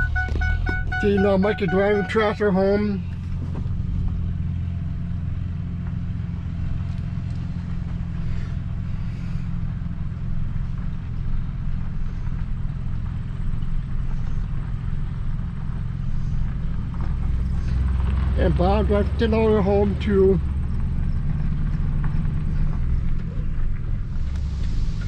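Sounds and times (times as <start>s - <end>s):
truck engine droning: 0.0s - 25.0s.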